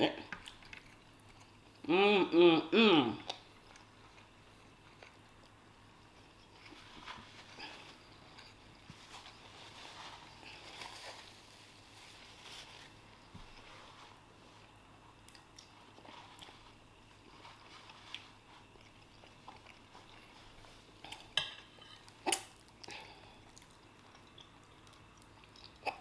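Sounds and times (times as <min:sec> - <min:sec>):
chewing fried rice: 0:00.2 - 0:01.8, 0:03.2 - 0:26.0.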